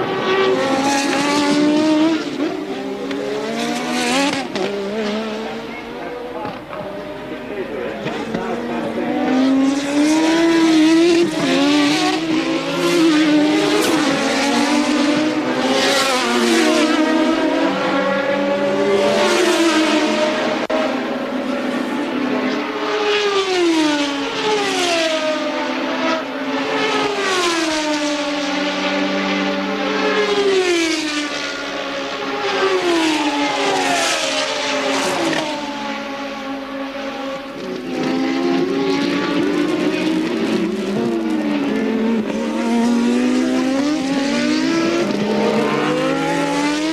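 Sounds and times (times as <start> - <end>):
racing car engines: 0.0 - 46.9.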